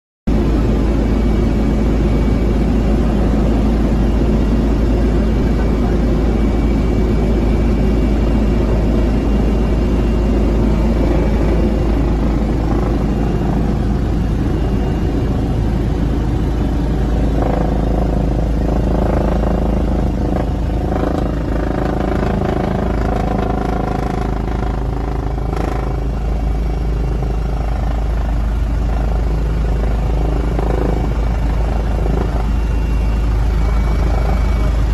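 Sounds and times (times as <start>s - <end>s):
engine tones: 0.3s - 34.9s
helicopter rotor and engine noise: 0.3s - 34.9s.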